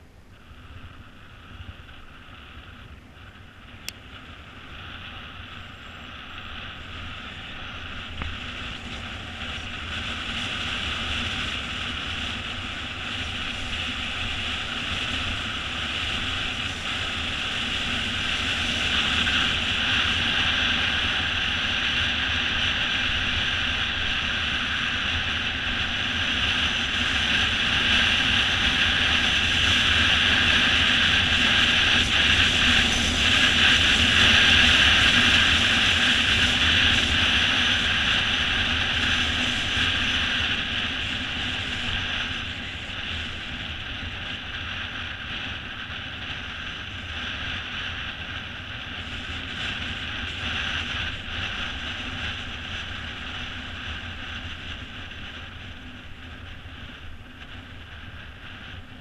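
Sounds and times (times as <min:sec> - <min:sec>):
tyres humming on asphalt: 0:00.0 - 0:59.0
wind rushing over camera: 0:00.0 - 0:59.0.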